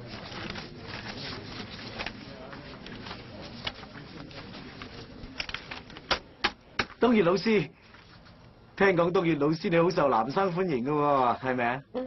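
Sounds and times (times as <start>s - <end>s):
faint background chatter: 0.0s - 12.0s.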